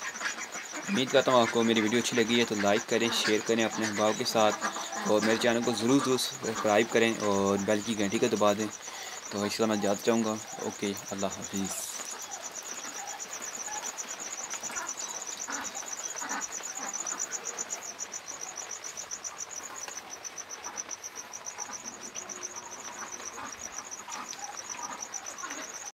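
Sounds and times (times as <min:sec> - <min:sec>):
cricket chirping: 0:00.0 - 0:25.9.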